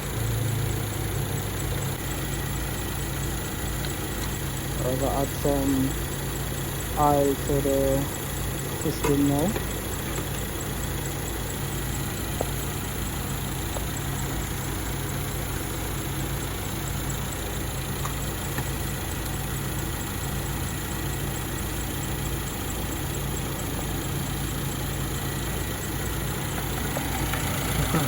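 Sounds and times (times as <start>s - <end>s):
air conditioning running: 0.0s - 28.0s
car engine idling: 0.0s - 28.0s.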